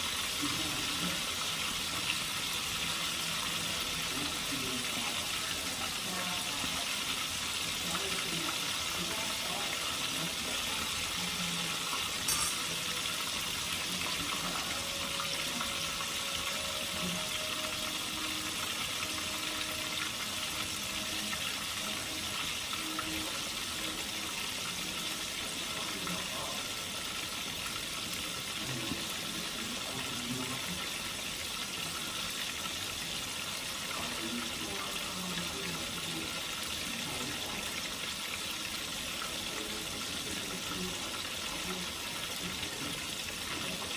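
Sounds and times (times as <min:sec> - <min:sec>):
fish frying in hot oil: 0:00.0 - 0:43.9.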